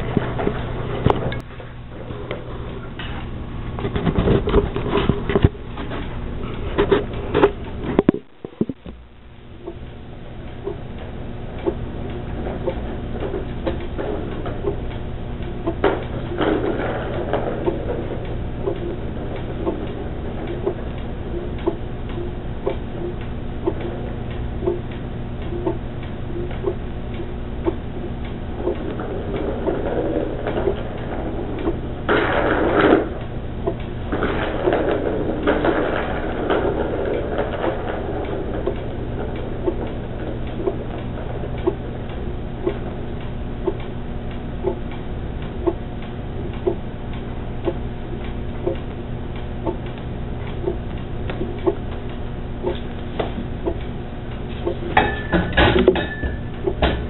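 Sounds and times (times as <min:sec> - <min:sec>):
steady low hum: 0:00.0 - 0:57.0
regular ticking: 0:05.1 - 0:57.0.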